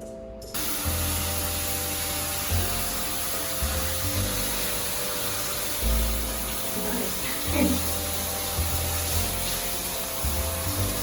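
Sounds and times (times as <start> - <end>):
background music low notes: 0.0 - 11.0
shower spraying water: 0.5 - 11.0.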